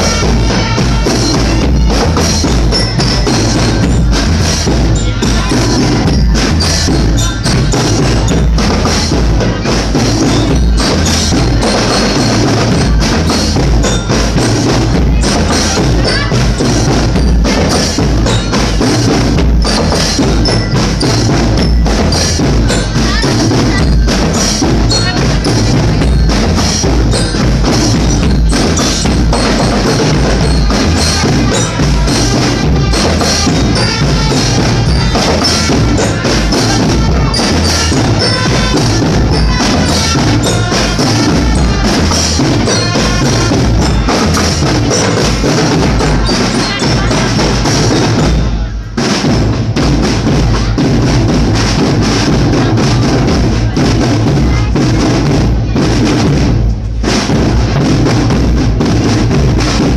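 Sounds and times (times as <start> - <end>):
rapid percussion: 0.0 - 59.9.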